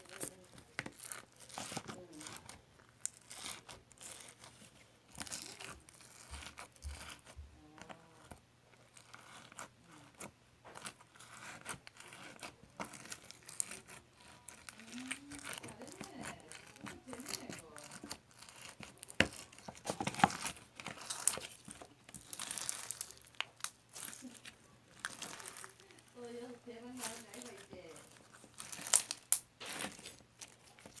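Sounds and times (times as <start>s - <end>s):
packaging crinkling and tearing: 0.0s - 31.0s.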